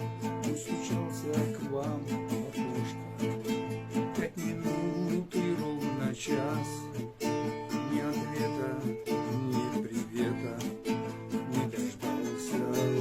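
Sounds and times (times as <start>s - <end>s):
acoustic guitar strumming: 0.0s - 13.0s
person singing: 0.0s - 13.0s.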